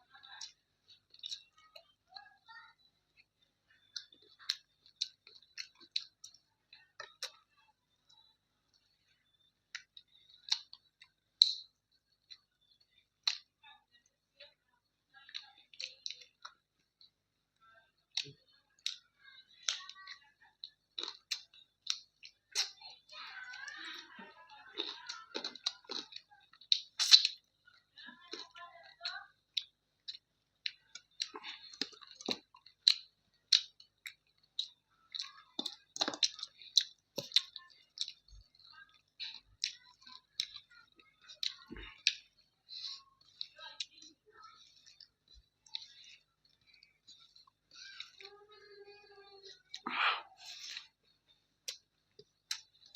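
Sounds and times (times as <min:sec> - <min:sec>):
wet mouth clicks while chewing: 0:00.2 - 0:02.0, 0:03.1 - 0:13.6, 0:15.2 - 0:17.2, 0:18.1 - 0:23.1, 0:23.8 - 0:48.4, 0:49.4 - 0:52.9.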